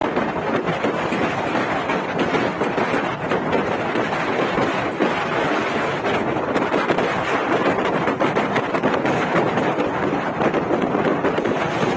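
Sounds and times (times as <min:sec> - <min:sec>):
truck road noise on highway: 0:00.0 - 0:11.9.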